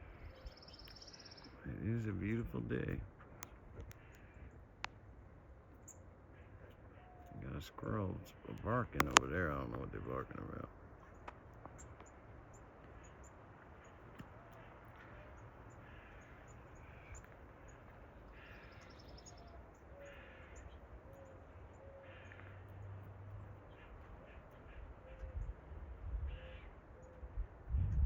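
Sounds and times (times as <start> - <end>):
faint small birds chirping: 0.0 - 25.5.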